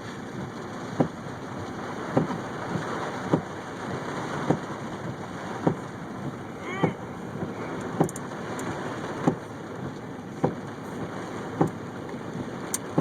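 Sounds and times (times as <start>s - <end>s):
rain heard from inside a vehicle: 0.0s - 13.0s.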